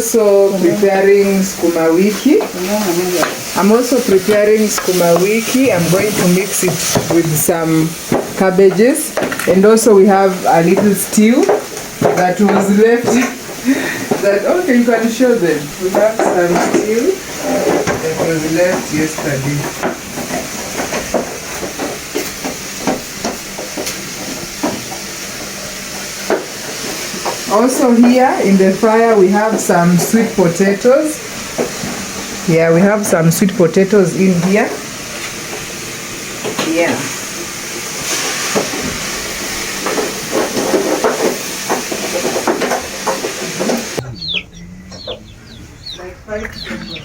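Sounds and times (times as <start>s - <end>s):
food cooking hiss: 0.0s - 44.4s
sweet potatoes frying in oil: 0.0s - 44.4s.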